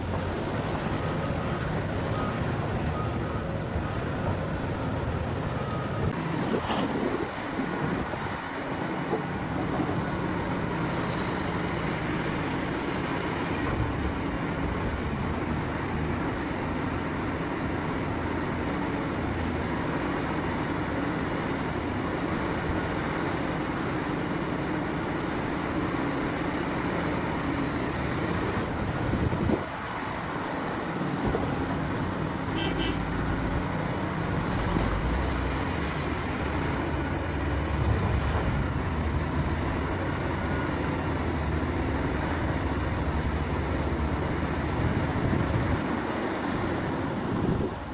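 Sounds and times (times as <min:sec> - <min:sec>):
heavy diesel machinery drone: 0:00.0 - 0:47.9.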